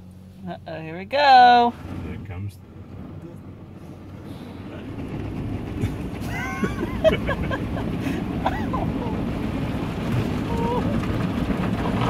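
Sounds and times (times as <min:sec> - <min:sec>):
car wash rushing and rumbling: 0:00.0 - 0:12.0.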